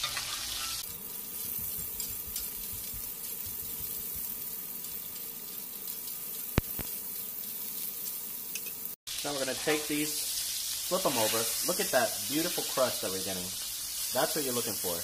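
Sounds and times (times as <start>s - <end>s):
steaks sizzling in a pan: 0.0s - 15.0s.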